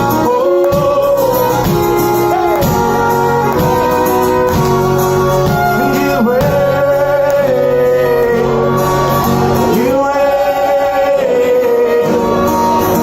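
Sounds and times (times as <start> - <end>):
live band instrumental music: 0.0 - 13.0.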